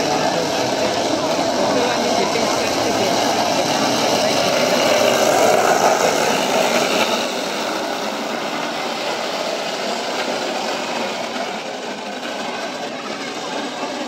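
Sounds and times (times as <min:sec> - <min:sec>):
wooden cart wheels rolling on asphalt: 0:00.0 - 0:14.0.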